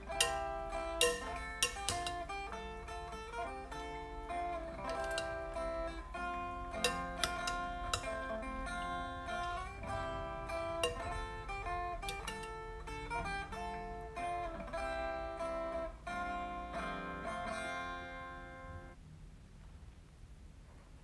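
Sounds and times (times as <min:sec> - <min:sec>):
plucked-string melody: 0:00.0 - 0:19.0.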